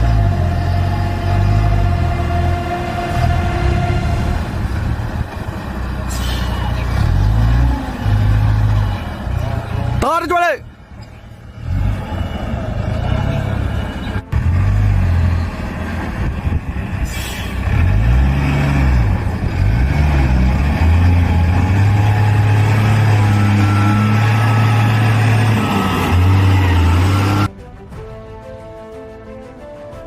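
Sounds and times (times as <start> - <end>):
heavy truck engine under load: 0.0 - 27.5.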